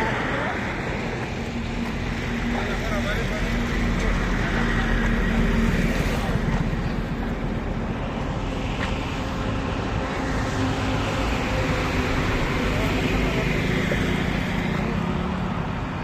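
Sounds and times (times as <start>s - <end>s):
road noise: 0.0s - 16.0s
vehicle engine: 0.0s - 16.0s.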